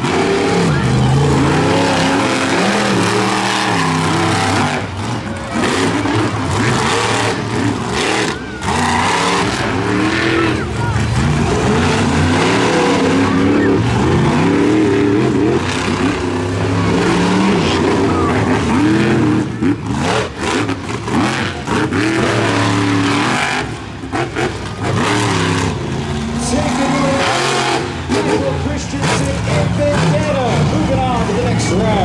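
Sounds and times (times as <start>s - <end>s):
truck engines revving at full throttle: 0.0s - 32.0s.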